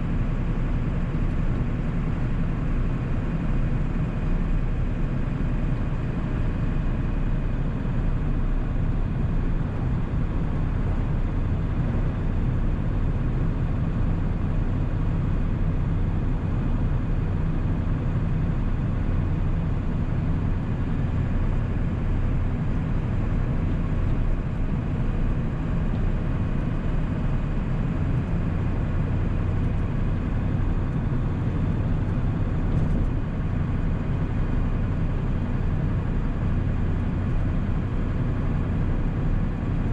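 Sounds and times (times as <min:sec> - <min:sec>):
diesel engine cruising: 0:00.0 - 0:39.9
road and tyre noise: 0:00.0 - 0:39.9.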